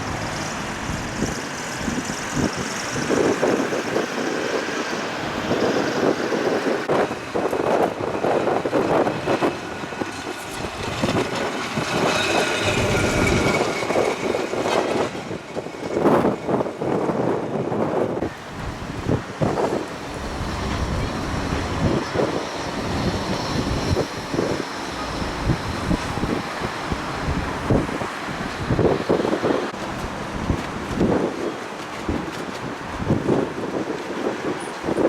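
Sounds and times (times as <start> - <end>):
tram rumbling past: 0.0 - 35.0.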